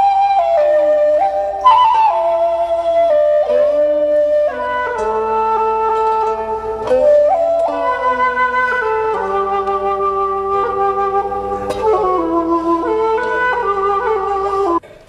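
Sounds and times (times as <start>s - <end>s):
flute melody: 0.0s - 14.8s
held accompanying notes: 0.0s - 15.0s.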